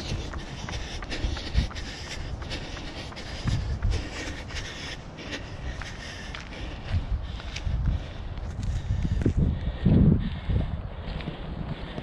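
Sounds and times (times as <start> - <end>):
footsteps: 0.0 - 10.0
wind buffeting microphone: 0.0 - 12.0.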